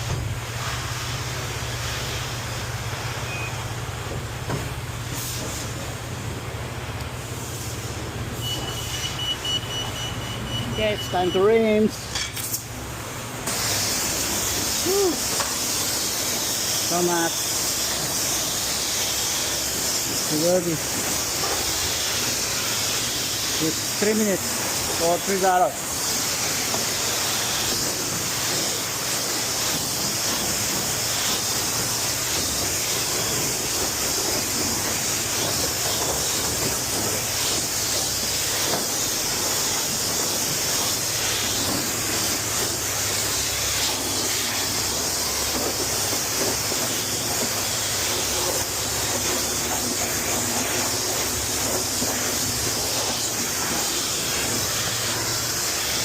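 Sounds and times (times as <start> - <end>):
pressure washer spraying water: 0.0 - 56.0.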